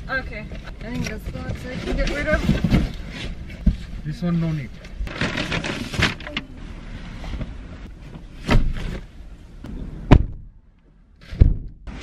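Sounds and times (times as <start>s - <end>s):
boxes and bags shifting in car: 0.5s - 10.4s.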